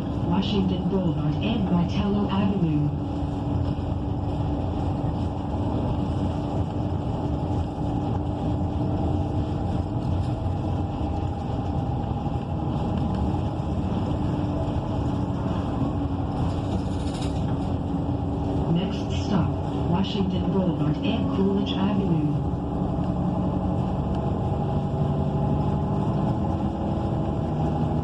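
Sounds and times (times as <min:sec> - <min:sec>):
bus engine hum: 0:00.0 - 0:28.0
road noise: 0:00.0 - 0:28.0.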